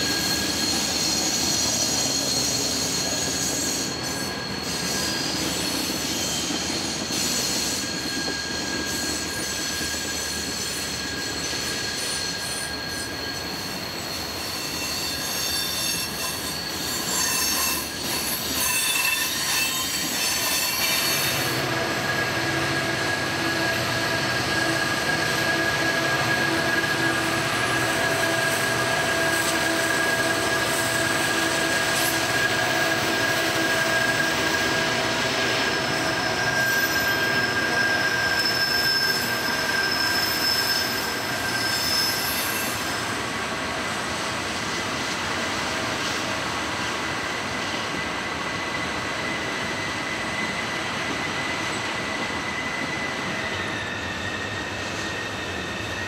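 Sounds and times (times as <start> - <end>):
train wheel flanges squealing: 0.0 - 56.0
train wheels rumbling: 0.0 - 56.0.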